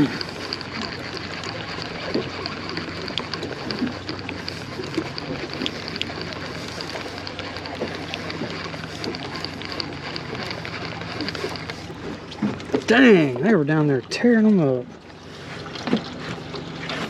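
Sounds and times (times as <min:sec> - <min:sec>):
outboard motor idling: 0:00.0 - 0:17.0
water sloshing: 0:00.0 - 0:17.0.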